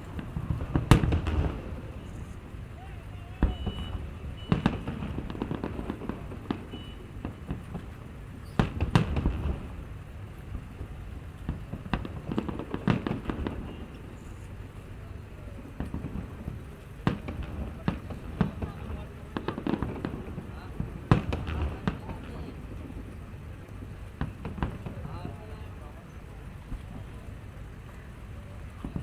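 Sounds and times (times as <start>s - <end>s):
fireworks booming bursts: 0.0s - 29.0s
fireworks crackling and rumbling: 0.0s - 29.0s.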